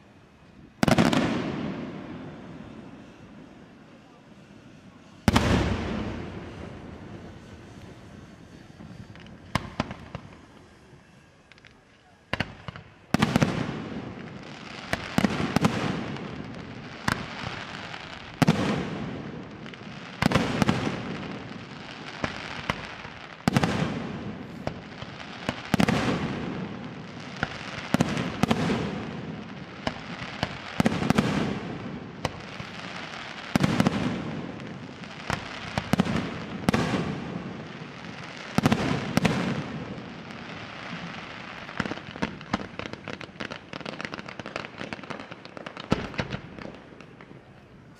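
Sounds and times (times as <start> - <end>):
sharp firework cracks: 0.7 - 4.2, 4.8 - 47.6.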